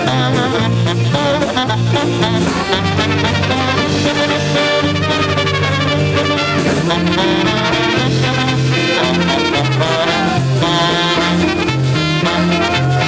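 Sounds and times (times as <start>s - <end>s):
bouncing bass line: 0.0s - 13.0s
polka band playing: 0.0s - 13.0s
trumpets: 0.8s - 13.0s.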